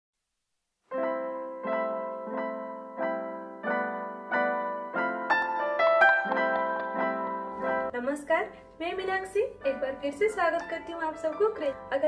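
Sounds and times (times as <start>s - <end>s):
keyboard chords and melody: 0.8s - 12.0s.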